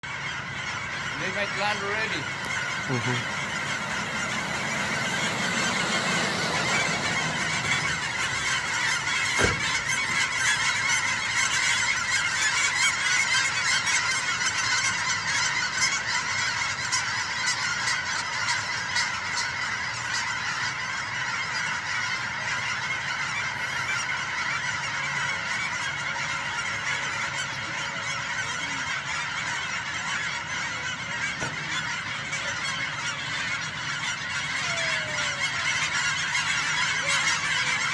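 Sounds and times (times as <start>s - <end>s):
flock of geese honking: 0.0s - 37.9s.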